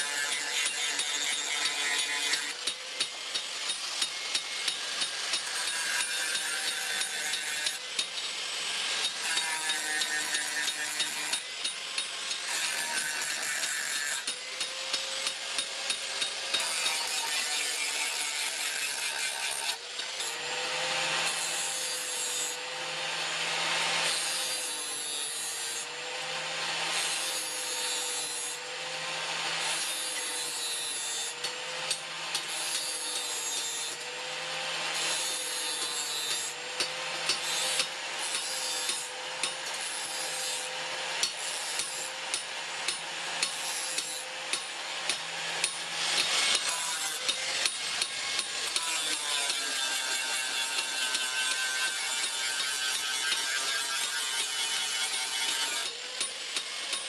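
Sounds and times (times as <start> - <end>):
rasping strokes on steel: 0.0 - 57.0.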